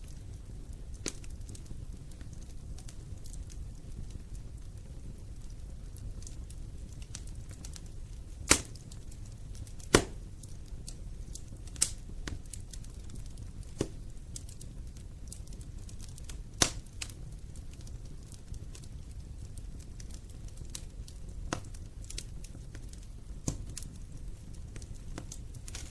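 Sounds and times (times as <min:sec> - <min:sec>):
fire rumbling in fireplace: 0:00.0 - 0:25.9
sharp pops of fire: 0:00.0 - 0:25.9
wood fire crackles: 0:00.0 - 0:25.9.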